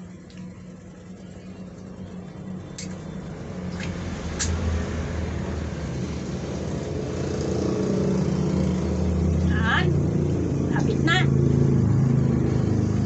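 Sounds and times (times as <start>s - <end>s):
low motor-like hum: 0.0s - 13.0s.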